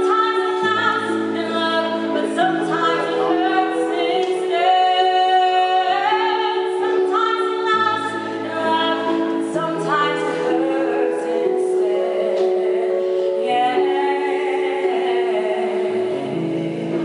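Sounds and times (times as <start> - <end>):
keyboard accompaniment: 0.0 - 17.0.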